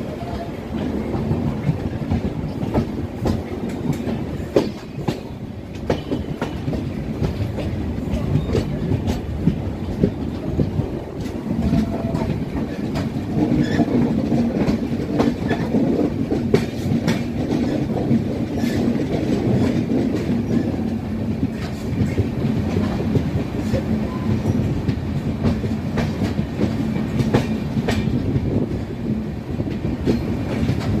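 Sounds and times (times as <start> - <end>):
train wheels rumbling: 0.0 - 31.0
wheels clacking over rail joints: 0.1 - 31.0.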